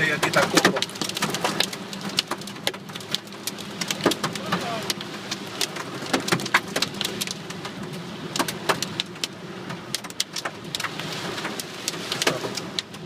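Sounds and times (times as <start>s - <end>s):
hailstones hitting car roof: 0.0s - 13.0s
moving car hum: 0.0s - 13.0s.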